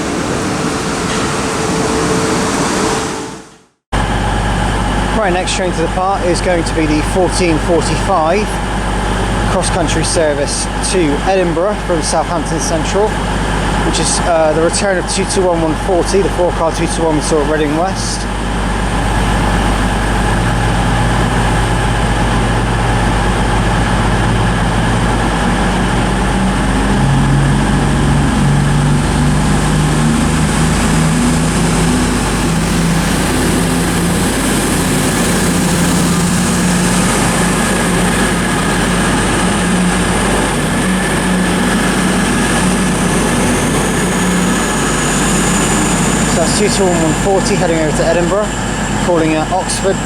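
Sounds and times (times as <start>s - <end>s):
train diesel engines running up: 0.0s - 50.0s.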